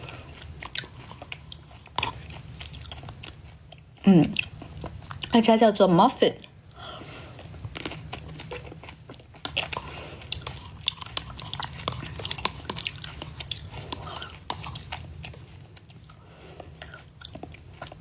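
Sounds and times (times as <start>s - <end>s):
chewing crunchy food: 0.0s - 5.4s, 6.4s - 18.0s.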